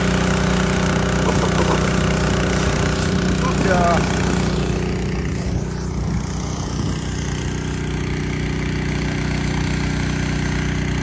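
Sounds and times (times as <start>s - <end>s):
small petrol engine running: 0.0s - 11.0s
water jet spraying: 0.0s - 11.0s.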